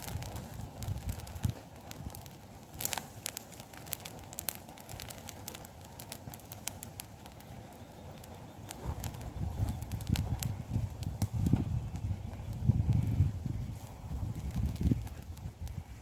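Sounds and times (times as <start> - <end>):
burning wood popping and snapping: 0.0 - 16.0
campfire crackling: 0.0 - 16.0.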